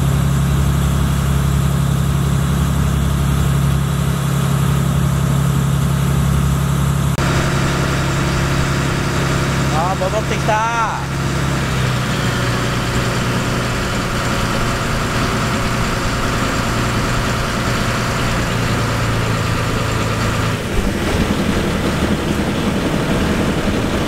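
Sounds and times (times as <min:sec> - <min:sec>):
boat engine humming: 0:00.0 - 0:24.0
water noise: 0:00.0 - 0:24.0
wind: 0:00.0 - 0:24.0.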